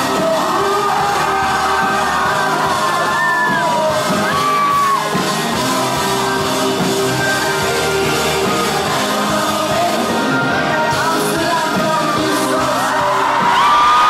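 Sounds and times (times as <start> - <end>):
fans screaming: 0.0 - 14.0
live pop-rock band: 0.0 - 14.0.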